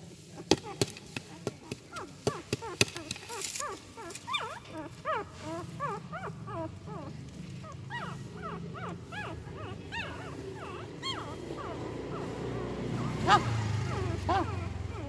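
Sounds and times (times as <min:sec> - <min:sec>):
puppies whimpering and squealing: 0:00.4 - 0:15.0.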